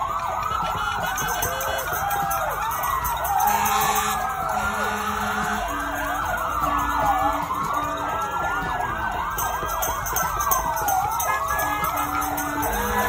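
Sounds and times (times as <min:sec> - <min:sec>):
emergency sirens wailing: 0:00.0 - 0:13.0
horn blasts: 0:00.4 - 0:13.0.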